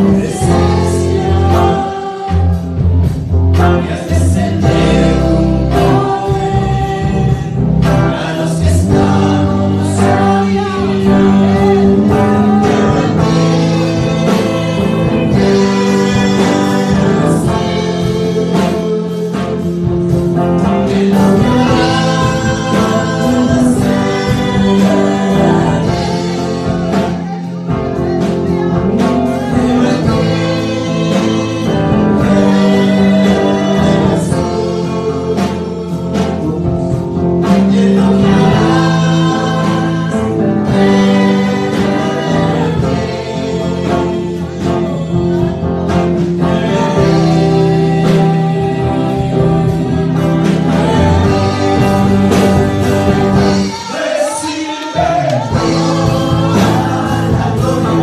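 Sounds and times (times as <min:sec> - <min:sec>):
girl and man singing: 0:00.0 - 0:02.9, 0:03.6 - 0:19.6, 0:20.6 - 0:58.0
sustained bass: 0:00.0 - 0:53.8, 0:55.0 - 0:58.0
instrumental backing music: 0:00.0 - 0:58.0.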